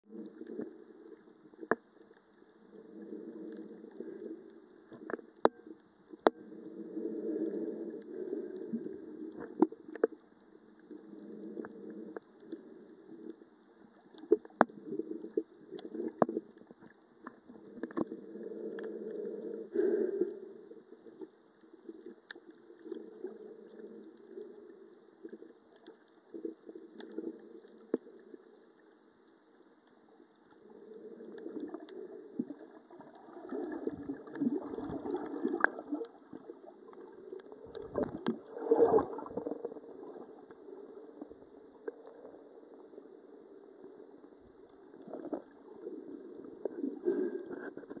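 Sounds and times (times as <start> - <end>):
underwater sloshing and gurgling: 0.1 - 48.0.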